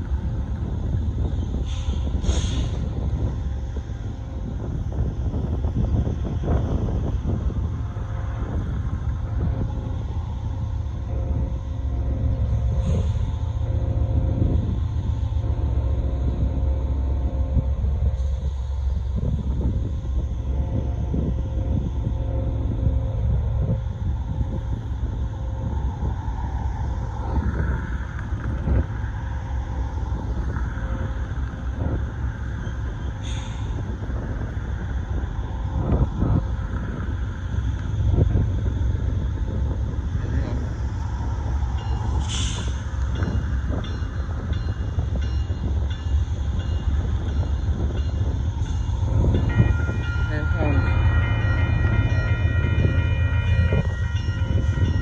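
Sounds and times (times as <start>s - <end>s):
freight cars rolling rumble: 0.0s - 55.0s.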